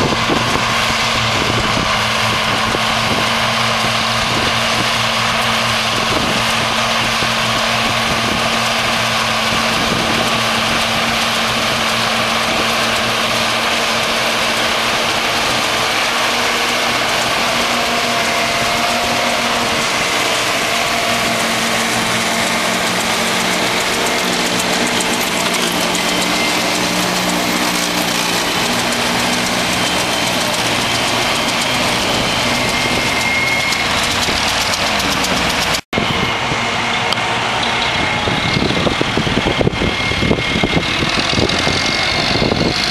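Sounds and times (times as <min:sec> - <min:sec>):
forage harvester chopping grass: 0:00.0 - 0:42.9
tractor engines under load: 0:00.0 - 0:42.9.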